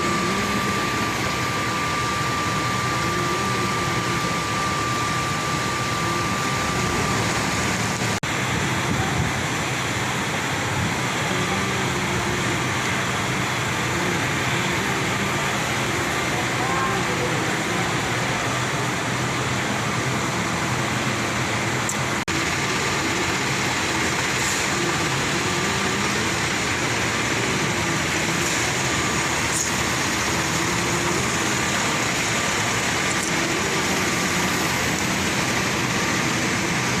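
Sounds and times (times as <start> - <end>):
industrial fans and motors running: 0.0 - 37.0.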